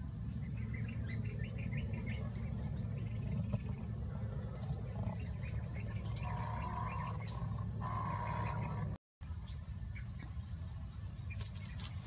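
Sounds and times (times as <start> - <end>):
faint high insect-like whine: 0.0 - 12.0.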